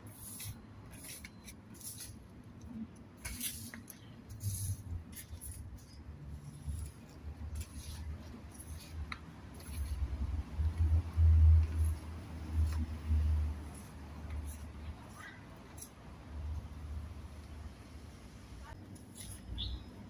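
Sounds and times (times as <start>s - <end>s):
broom sweeping pavement: 0.0s - 2.4s, 3.2s - 17.6s, 18.2s - 19.8s.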